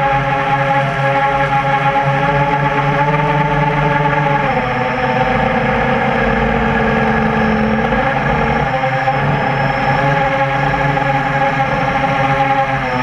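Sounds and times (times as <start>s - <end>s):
quadcopter motors buzzing: 0.0s - 13.0s.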